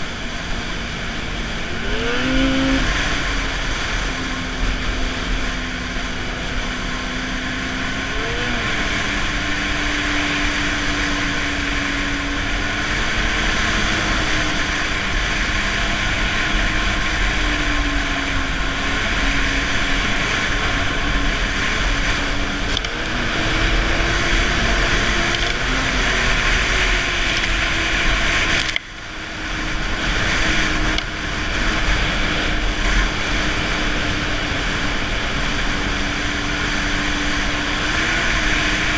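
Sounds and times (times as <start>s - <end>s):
snowmobile engine running: 0.0s - 38.9s
snowmobile track noise: 0.0s - 38.9s.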